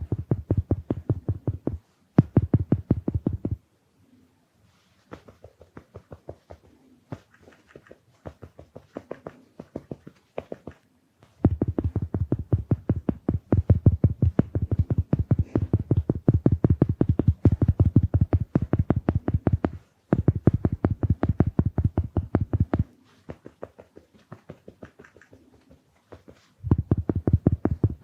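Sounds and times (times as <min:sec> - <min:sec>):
sponge patting on lens: 0:00.0 - 0:03.6, 0:04.7 - 0:28.0.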